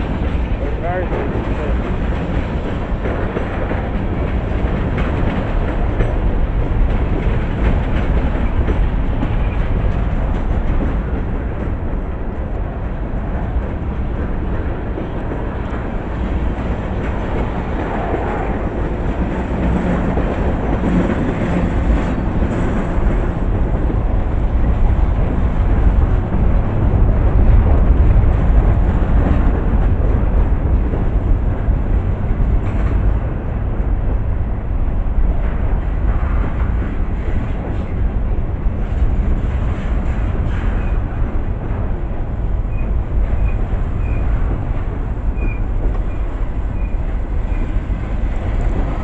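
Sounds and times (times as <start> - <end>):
freight train rumbling: 0.0 - 49.0.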